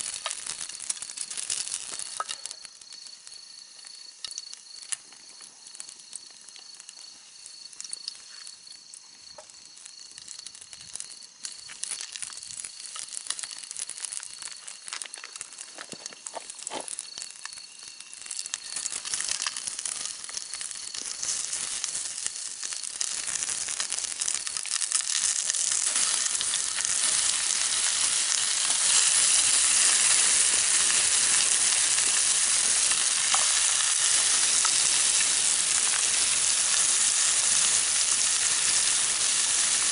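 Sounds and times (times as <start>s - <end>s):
campfire crackles: 0.0s - 39.9s
food sizzling: 0.0s - 39.9s.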